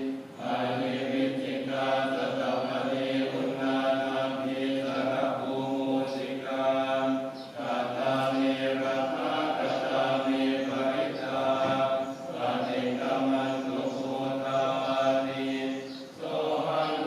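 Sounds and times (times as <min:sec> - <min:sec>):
low voices chanting in unison: 0:00.0 - 0:17.0.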